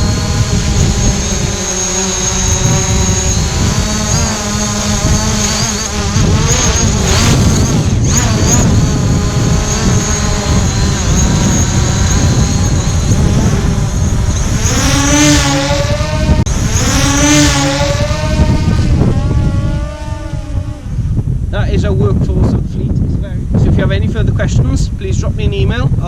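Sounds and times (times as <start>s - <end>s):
drone propellers buzzing: 0.0s - 21.5s
heavy low rumble: 0.0s - 26.0s.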